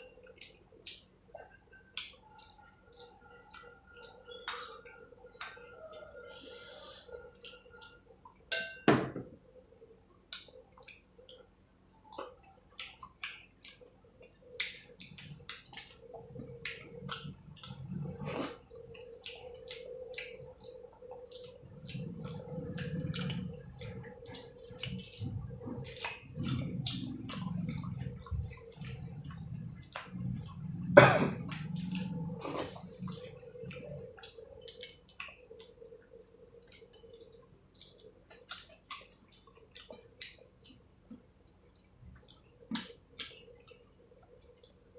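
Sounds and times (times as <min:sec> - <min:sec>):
wet chewing and smacking: 0:00.0 - 0:08.5, 0:10.1 - 0:44.9
faint steady hum: 0:00.0 - 0:44.9.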